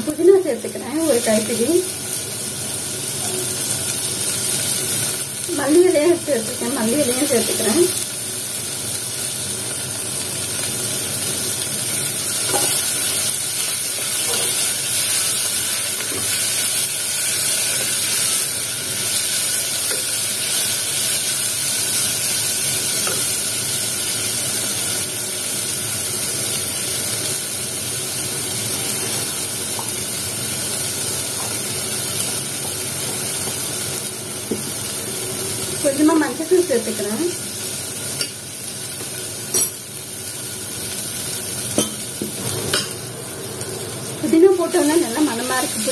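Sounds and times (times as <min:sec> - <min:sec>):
masala sizzling in a pot: 0:00.0 - 0:45.9.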